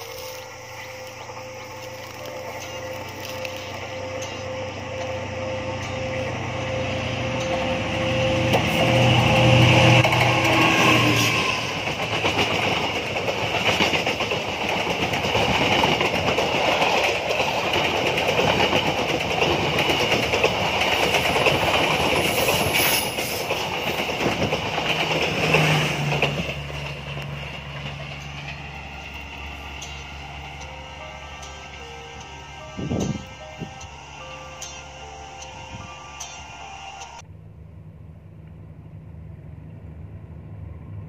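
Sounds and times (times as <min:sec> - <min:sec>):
train wheels rolling on rails: 0:00.0 - 0:37.3.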